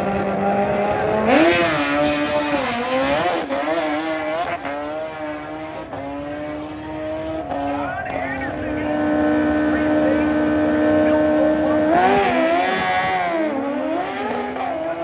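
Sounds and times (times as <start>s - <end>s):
motorbike engines revving: 0.0s - 15.0s.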